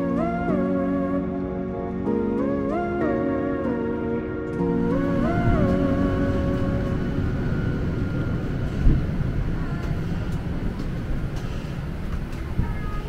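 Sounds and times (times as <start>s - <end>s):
airplane cabin rumble and hiss: 0.0s - 13.0s.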